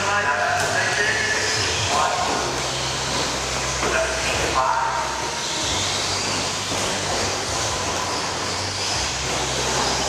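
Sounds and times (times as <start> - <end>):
rc car motors whining: 0.0 - 10.0
tyre and track noise: 0.0 - 10.0.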